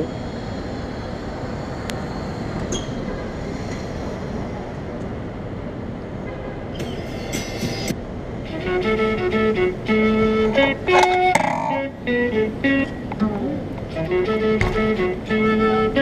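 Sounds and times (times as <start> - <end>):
city street traffic rumble: 0.0 - 16.0.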